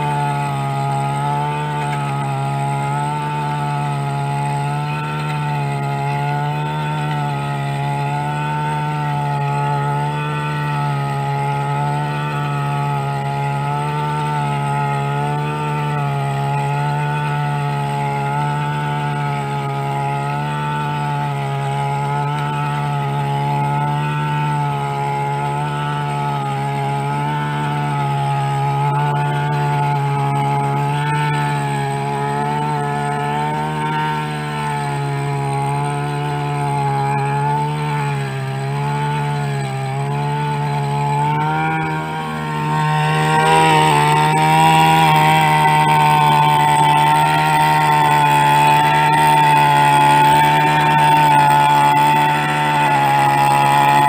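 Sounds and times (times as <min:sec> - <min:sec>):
brush cutter engine at high speed: 0:00.0 - 0:54.0.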